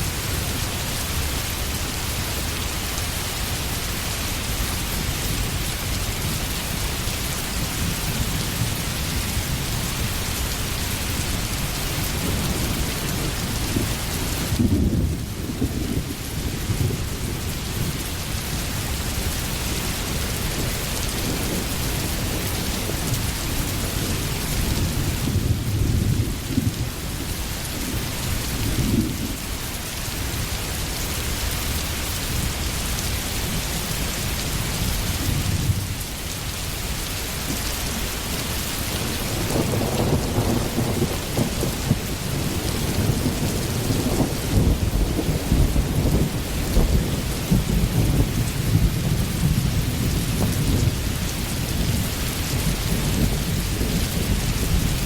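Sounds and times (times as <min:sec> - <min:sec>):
heavy rain: 0:00.0 - 0:55.0
low rolling thunder: 0:03.4 - 0:30.2, 0:37.4 - 0:55.0.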